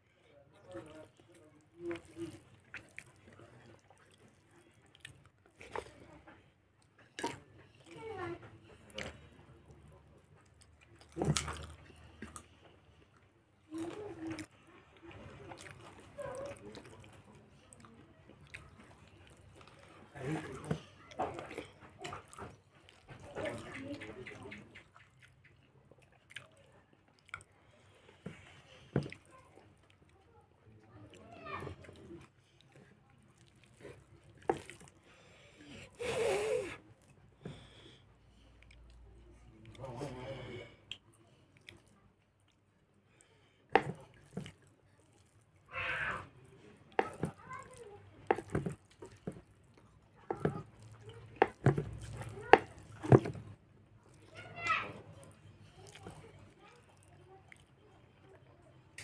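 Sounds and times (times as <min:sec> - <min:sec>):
food being chewed: 0:00.6 - 0:36.1, 0:36.9 - 0:58.2.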